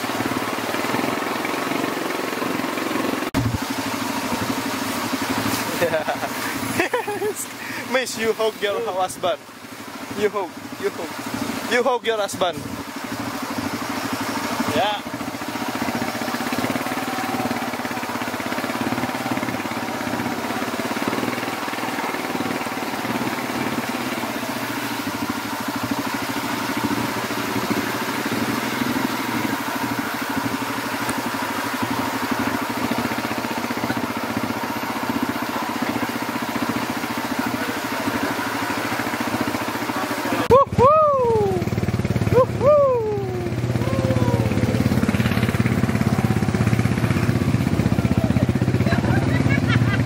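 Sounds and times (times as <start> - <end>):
quad bike engine running: 0.0 - 50.0.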